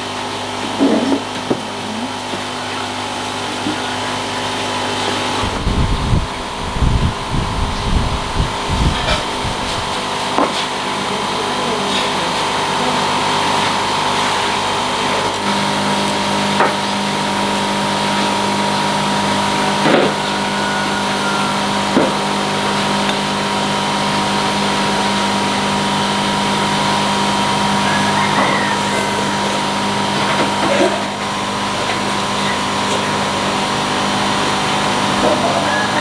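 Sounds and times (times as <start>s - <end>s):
steady motor hum: 0.0s - 36.0s.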